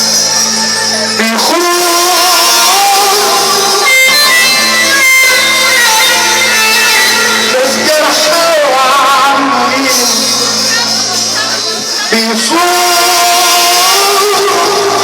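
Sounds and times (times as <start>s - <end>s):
amplified wedding band music: 0.0s - 15.0s.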